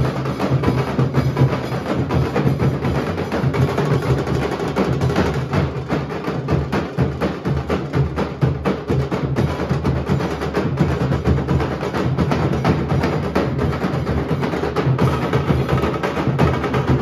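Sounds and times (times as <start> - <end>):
barrel drums beaten with sticks: 0.0 - 17.0.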